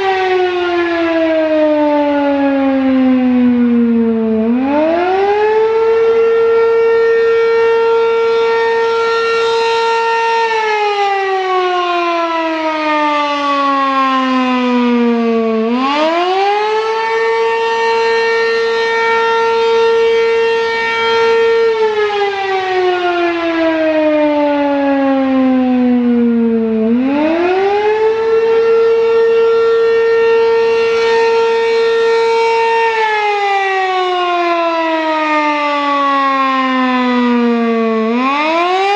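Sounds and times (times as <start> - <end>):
rising and falling siren: 0.0 - 38.9.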